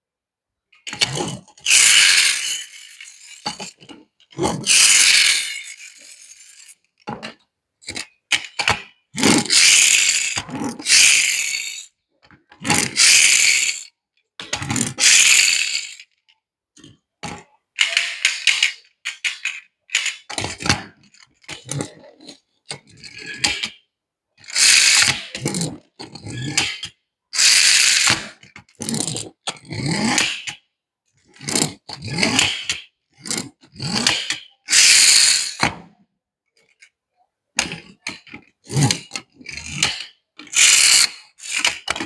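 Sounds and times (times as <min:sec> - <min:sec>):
toy cars clicking: 0:00.8 - 0:16.3, 0:17.2 - 0:23.8, 0:24.4 - 0:30.6, 0:31.4 - 0:35.8, 0:37.6 - 0:42.0
toy cars rattling and whirring: 0:00.8 - 0:16.3, 0:17.2 - 0:23.8, 0:24.4 - 0:30.7, 0:31.3 - 0:35.8, 0:37.6 - 0:42.0.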